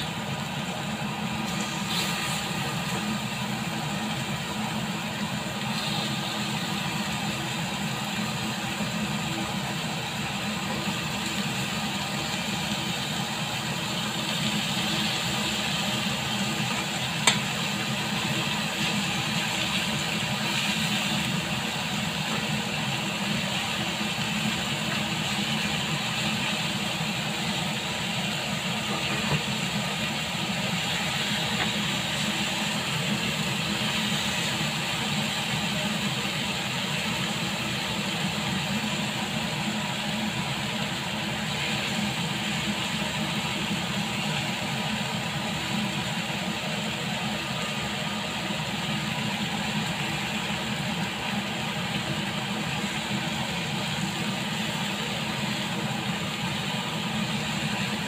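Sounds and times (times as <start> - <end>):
meat sizzling in a grill pan: 0.0 - 58.0.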